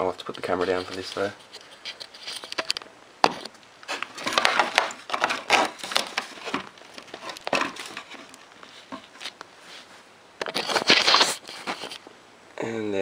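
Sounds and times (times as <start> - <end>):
plastic pieces scraping and clicking: 0.3 - 9.4, 10.4 - 12.0.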